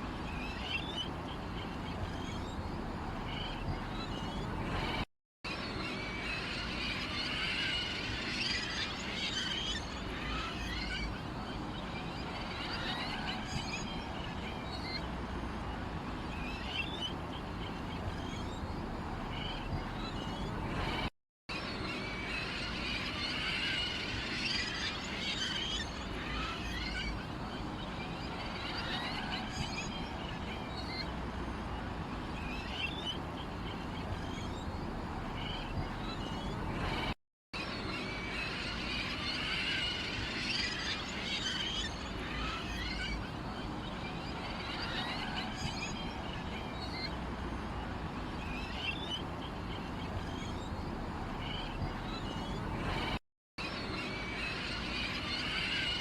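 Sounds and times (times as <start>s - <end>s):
small songbirds chirping: 0.0s - 5.0s, 5.6s - 21.1s, 23.4s - 37.1s, 40.4s - 55.9s
steady low background noise: 0.0s - 56.0s.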